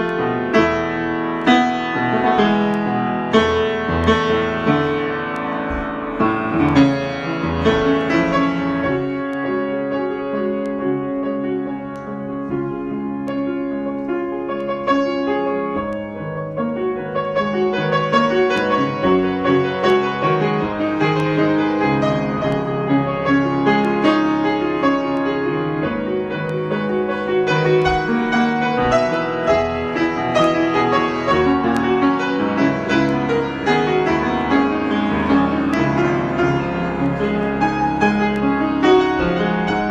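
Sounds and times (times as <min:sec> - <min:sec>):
solo piano improvisation: 0:00.0 - 0:39.9.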